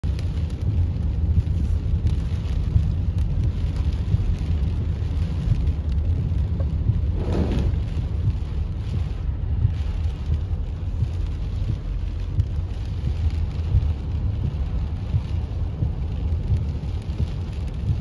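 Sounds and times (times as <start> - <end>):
car rumbling on wet road: 0.0 - 18.0
heavy rain on car roof: 0.0 - 18.0.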